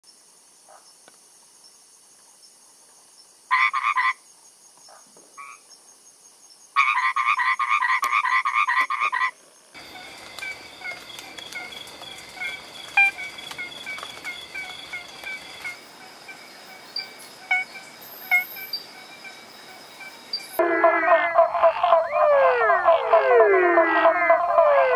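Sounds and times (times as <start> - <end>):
treefrogs calling: 3.5 - 4.3, 4.9 - 5.8, 6.6 - 24.9.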